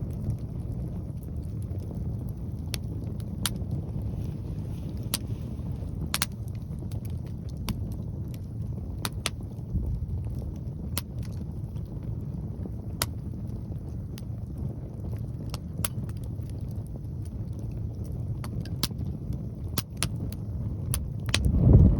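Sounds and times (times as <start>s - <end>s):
wind on microphone: 0.0s - 21.9s
wood fire crackling and popping: 0.0s - 21.9s.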